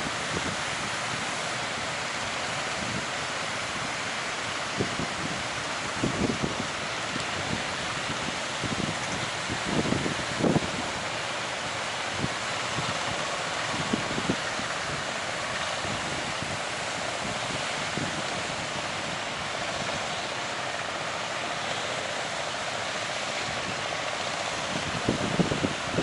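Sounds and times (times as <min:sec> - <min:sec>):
surf rushing: 0:00.0 - 0:26.0
wind buffeting microphone: 0:02.6 - 0:11.3, 0:12.0 - 0:21.0, 0:22.8 - 0:26.0.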